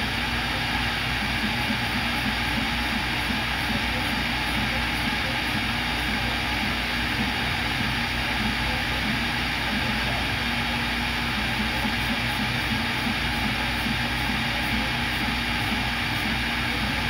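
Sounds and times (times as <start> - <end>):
drilling circuit board: 0.0 - 17.0
router spindle running: 0.0 - 17.0.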